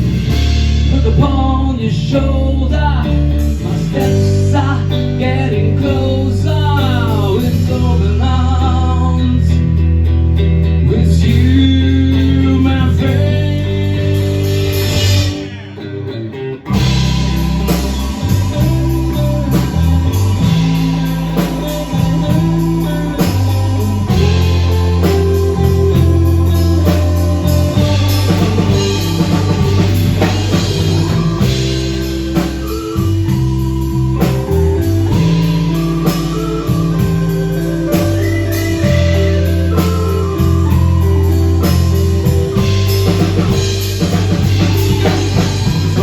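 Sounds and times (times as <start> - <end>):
live band playing guitar and drums: 0.0 - 46.0.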